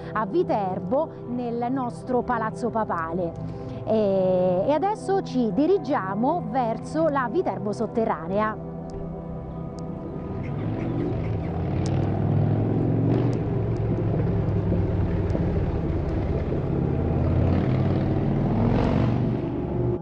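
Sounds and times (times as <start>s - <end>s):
low rumble of outdoor noise: 0.0s - 20.0s.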